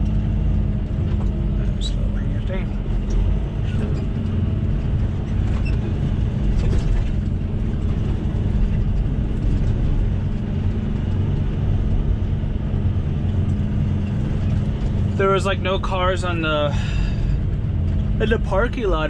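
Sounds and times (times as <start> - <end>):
road noise: 0.0 - 19.0
truck diesel engine droning: 0.0 - 19.0.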